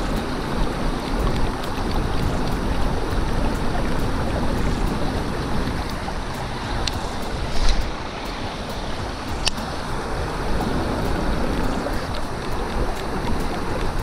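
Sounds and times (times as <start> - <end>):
fishing reel whirring: 0.0 - 14.0
wind rush on microphone: 0.0 - 14.0.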